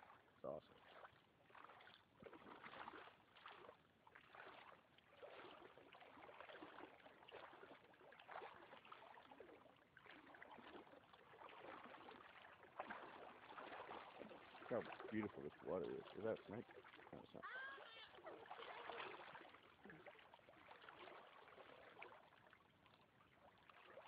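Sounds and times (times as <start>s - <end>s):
river water lapping against canoe: 0.0s - 24.0s.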